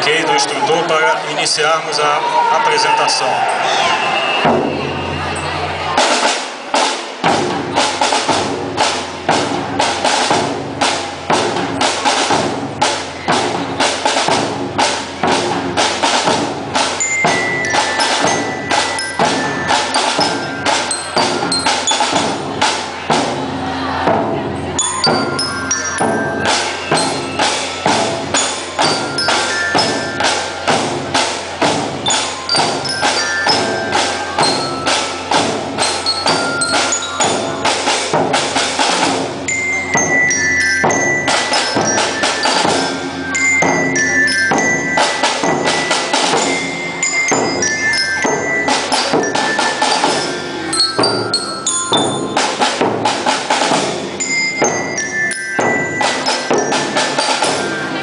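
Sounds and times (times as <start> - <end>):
glockenspiel melody: 3.4 - 6.3, 7.7 - 58.0
marching band drum beat: 3.4 - 58.0.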